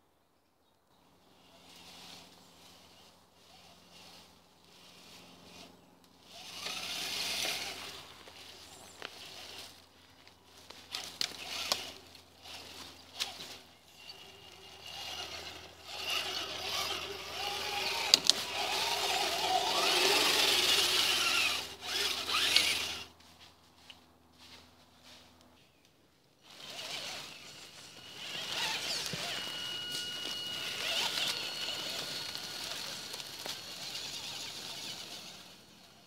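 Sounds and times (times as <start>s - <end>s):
remote control truck driving: 1.3s - 23.2s, 26.4s - 36.0s.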